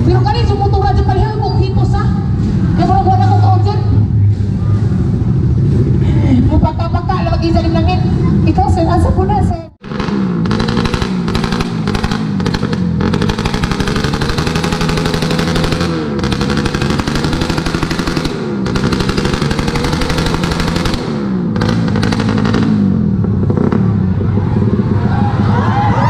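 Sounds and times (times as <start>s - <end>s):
motorcycle engine revving: 0.0s - 6.0s, 9.6s - 26.0s.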